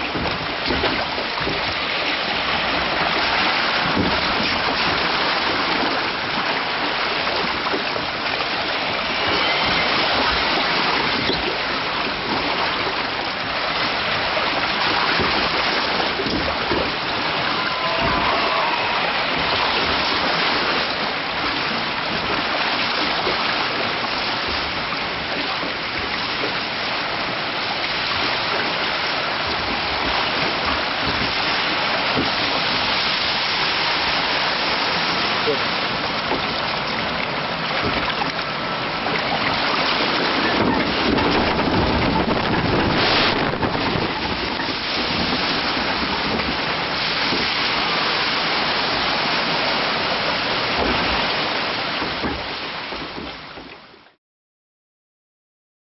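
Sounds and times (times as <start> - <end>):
water rushing through flume: 0.0 - 54.2.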